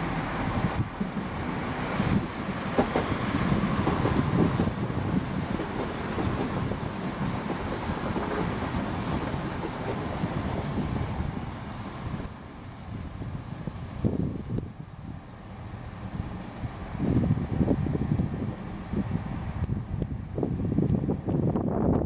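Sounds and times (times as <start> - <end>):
train engine and wheel rumble: 0.0 - 22.0
wind buffeting microphone: 0.4 - 22.0.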